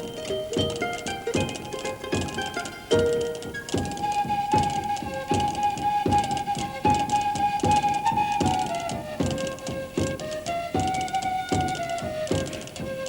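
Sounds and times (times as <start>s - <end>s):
flute-like melody: 0.0s - 13.0s
plucked accompaniment: 0.0s - 13.0s.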